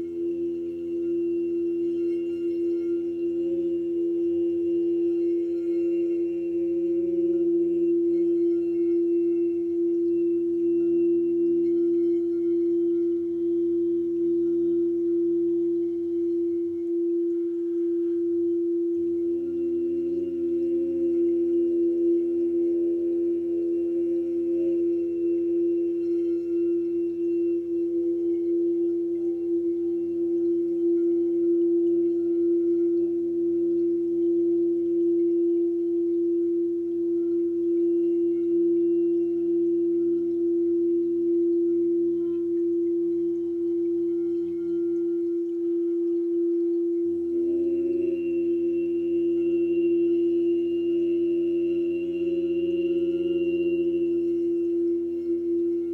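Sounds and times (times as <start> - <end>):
low steady tones: 0.0 - 55.9
steady pure tone drone: 0.0 - 55.9.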